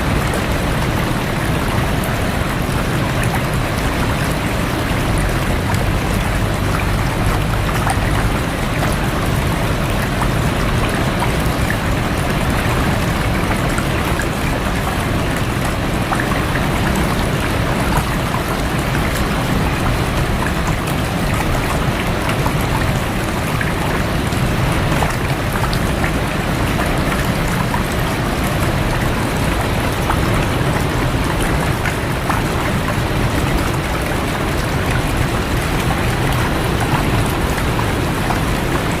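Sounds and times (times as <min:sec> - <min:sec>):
rain falling on water: 0:00.0 - 0:39.0
stream of rushing water: 0:00.0 - 0:39.0.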